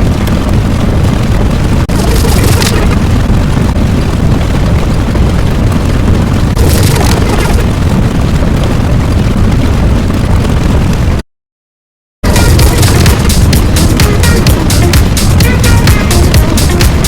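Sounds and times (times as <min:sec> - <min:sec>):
deep rumbling sound effect: 0:00.0 - 0:11.2, 0:12.2 - 0:17.0.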